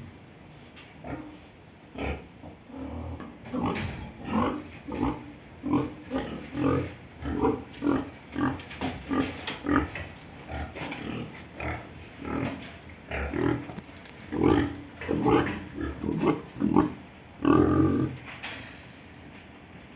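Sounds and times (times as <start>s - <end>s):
pigs grunting: 1.0s - 18.2s.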